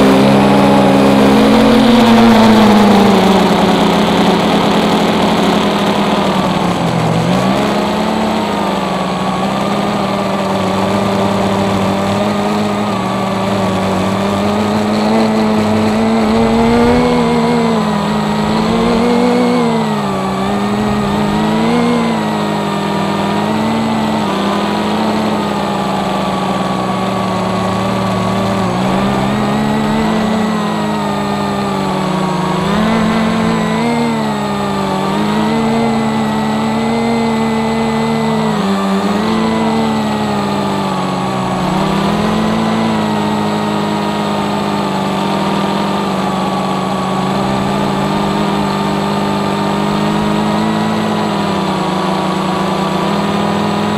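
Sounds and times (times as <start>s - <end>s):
quadcopter propellers buzzing: 0.0s - 53.9s.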